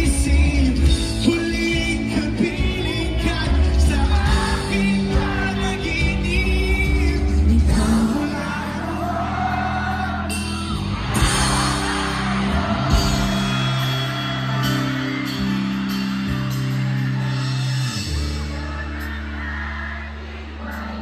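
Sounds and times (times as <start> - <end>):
person singing lead vocal: 0.0 - 21.0
pop-rock band playing live: 0.0 - 21.0.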